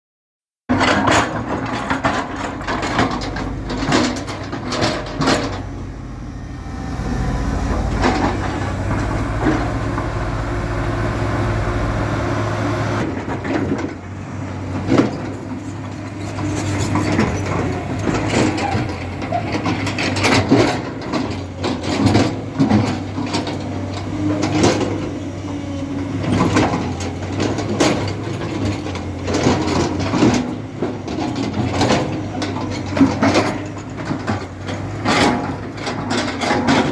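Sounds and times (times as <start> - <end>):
diesel engine under load: 0.7 - 36.9.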